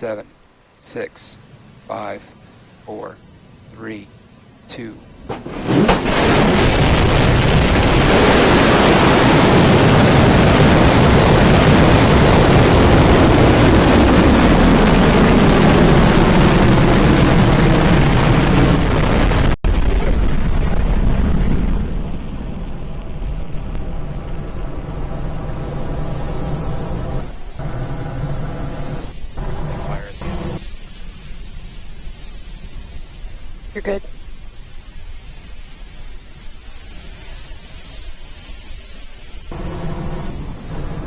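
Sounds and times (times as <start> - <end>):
rocket engines crackling rumble: 0.0 - 41.0.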